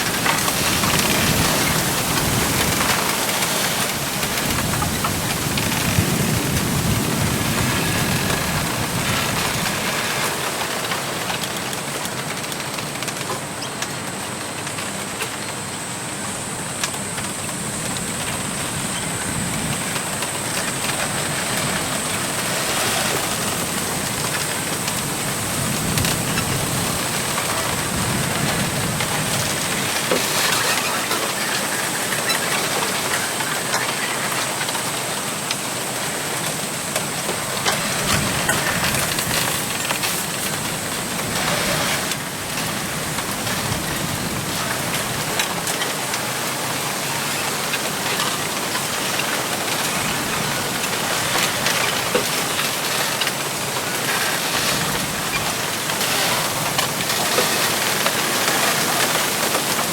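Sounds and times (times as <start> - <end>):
wind through bamboo: 0.0 - 59.9.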